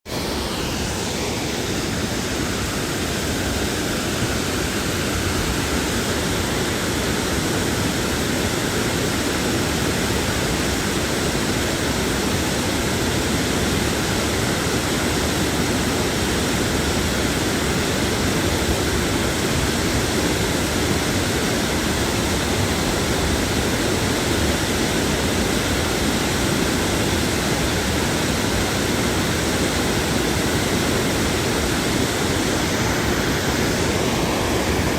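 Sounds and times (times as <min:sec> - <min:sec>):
water roaring over spillway: 0:00.1 - 0:34.9.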